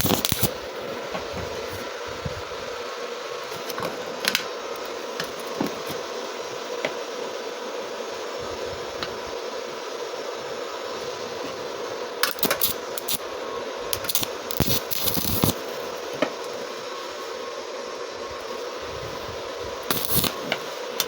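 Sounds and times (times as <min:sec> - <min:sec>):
fan machine whirring hum: 0:00.0 - 0:21.0.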